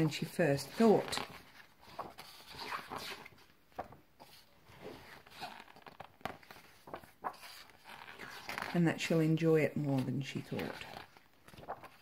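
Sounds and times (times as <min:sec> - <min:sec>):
book pages turning: 0:00.0 - 0:12.0.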